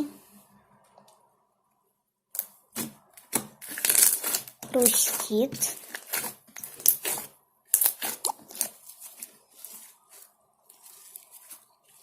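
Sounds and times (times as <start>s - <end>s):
slime crunching and crackling: 2.4s - 12.0s.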